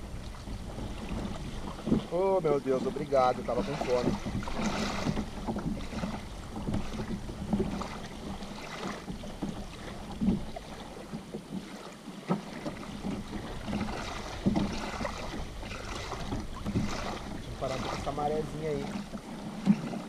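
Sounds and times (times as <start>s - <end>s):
wind rumbling on microphone: 0.0s - 11.3s, 12.5s - 20.0s
small waves lapping: 0.0s - 20.0s.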